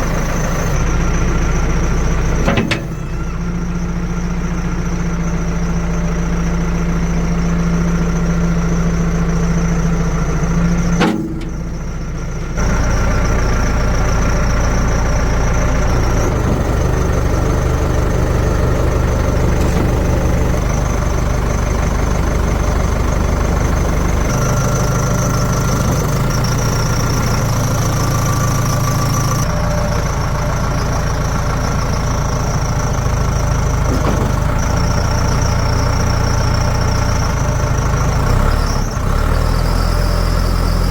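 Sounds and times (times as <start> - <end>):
heavy diesel machinery engines: 0.0 - 40.9.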